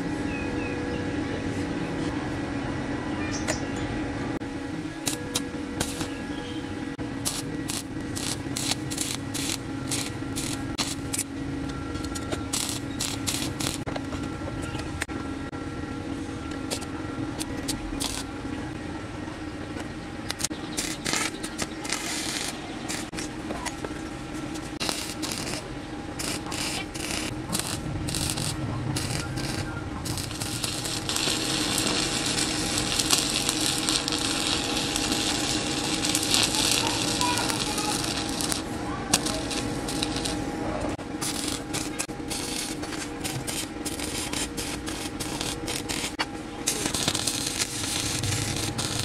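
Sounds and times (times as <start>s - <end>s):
steady machine hum: 0.0s - 49.0s
welding arc crackling: 4.6s - 6.2s, 6.9s - 14.2s, 16.6s - 18.4s, 20.3s - 49.0s.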